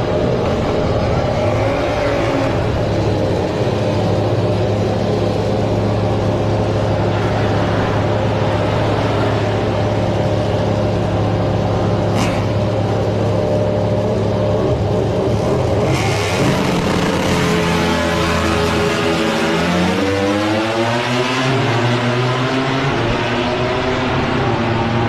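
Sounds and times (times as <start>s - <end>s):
diesel engine racing: 0.0s - 25.0s.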